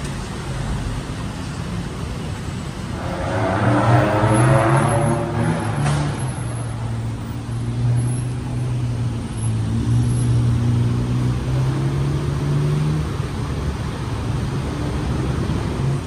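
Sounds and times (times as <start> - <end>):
street traffic: 0.0 - 16.0
vehicle engine humming: 0.0 - 16.0.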